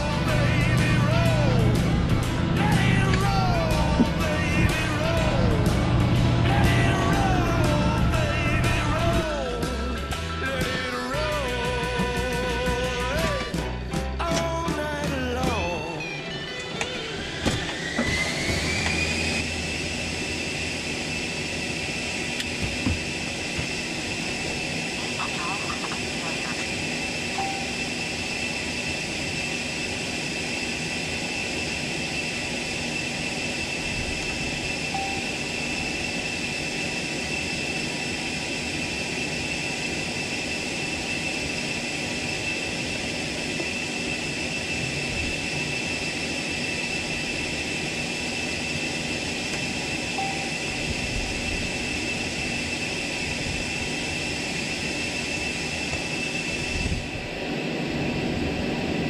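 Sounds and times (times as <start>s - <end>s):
helicopter engine whine: 0.0s - 59.0s
helicopter rotor noise: 0.0s - 59.0s.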